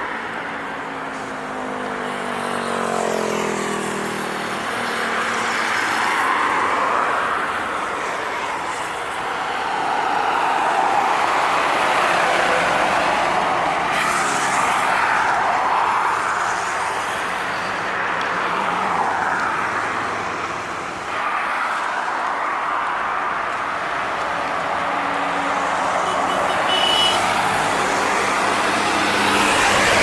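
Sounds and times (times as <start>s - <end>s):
highway traffic: 0.0s - 30.0s.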